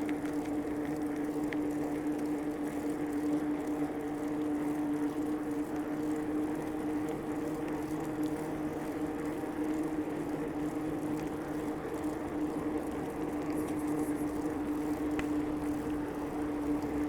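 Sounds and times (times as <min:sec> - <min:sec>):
bicycle rolling on pavement: 0:00.0 - 0:17.0.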